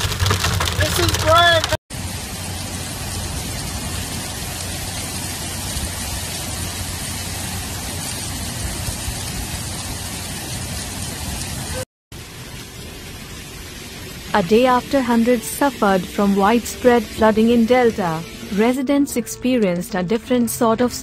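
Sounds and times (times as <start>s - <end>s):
heavy rain on a wet street: 0.0s - 18.6s.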